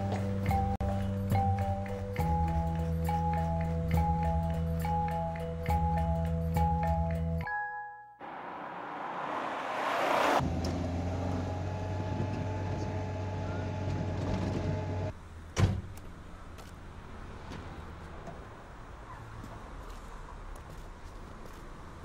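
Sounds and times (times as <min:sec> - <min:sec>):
vehicle engine humming: 0:00.0 - 0:07.4, 0:08.2 - 0:22.0.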